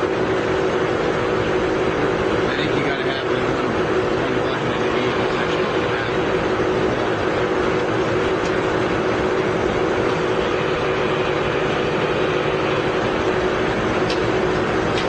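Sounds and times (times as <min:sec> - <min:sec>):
lathe mechanical hum: 0:00.0 - 0:15.0.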